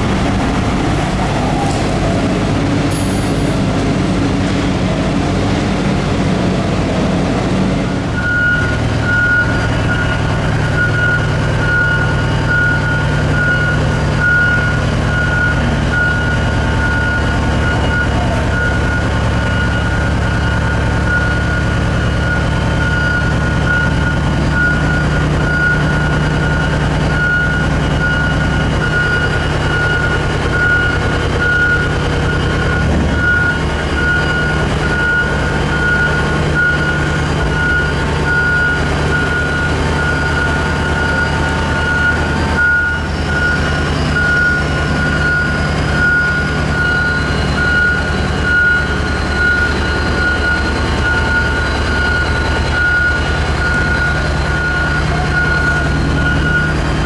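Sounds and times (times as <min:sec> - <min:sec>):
dump truck low hum: 0:00.0 - 0:57.0
high warning beeps: 0:08.2 - 0:57.0.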